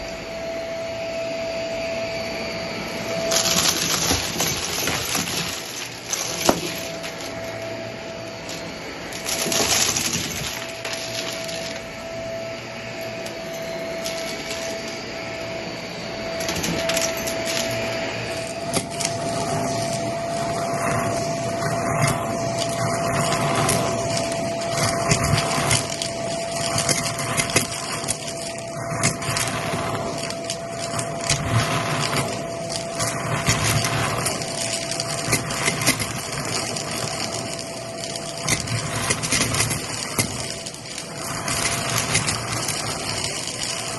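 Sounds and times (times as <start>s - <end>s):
vacuum cleaner motor whine: 0.0s - 43.9s
debris crunching in vacuum: 1.7s - 43.9s.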